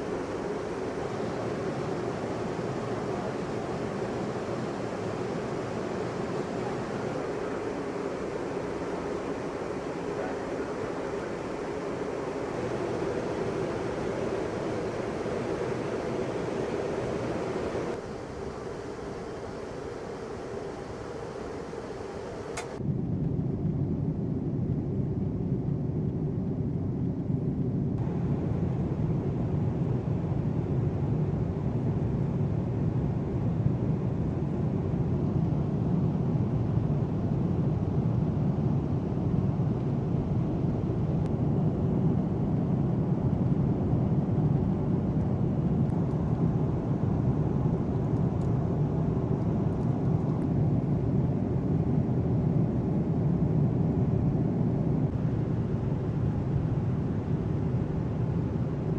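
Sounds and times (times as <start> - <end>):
jet aircraft rumble: 0.0 - 58.9.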